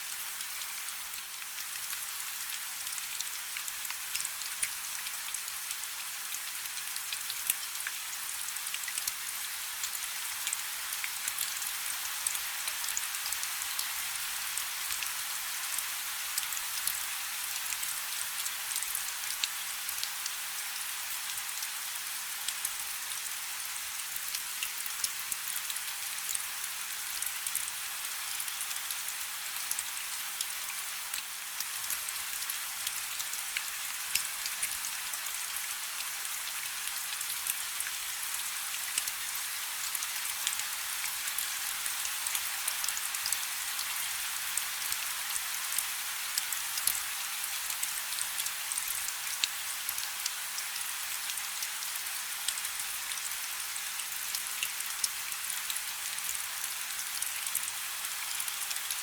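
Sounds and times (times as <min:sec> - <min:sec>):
rain falling on a river: 0:00.0 - 0:59.0.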